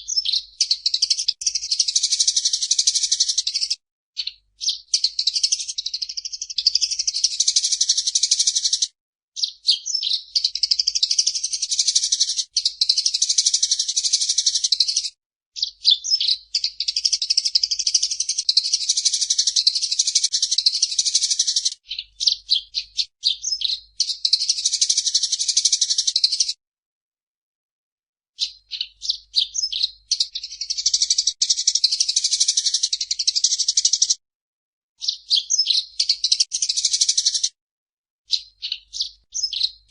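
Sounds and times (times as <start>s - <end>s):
sparrow chirping rapidly: 0.0s - 26.6s, 28.4s - 34.2s, 35.0s - 37.5s, 38.3s - 39.9s.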